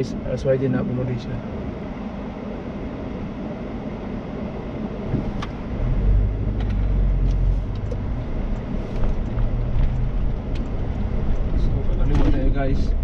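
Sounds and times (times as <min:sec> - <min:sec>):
car interior engine rumble: 0:00.0 - 0:13.0.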